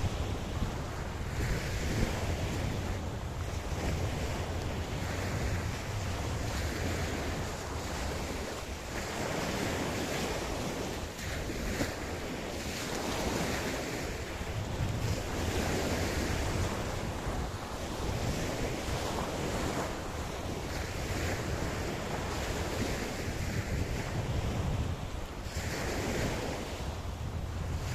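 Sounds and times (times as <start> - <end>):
waves breaking on a beach: 0.0 - 27.9
wind buffeting microphone: 0.0 - 27.9.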